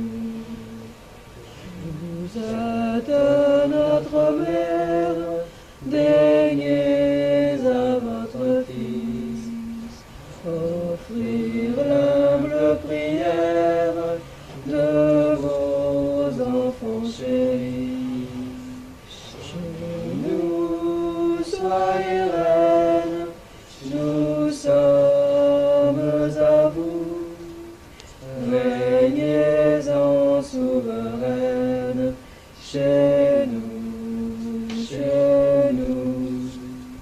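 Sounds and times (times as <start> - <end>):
voices chanting unaccompanied: 0.0 - 37.0.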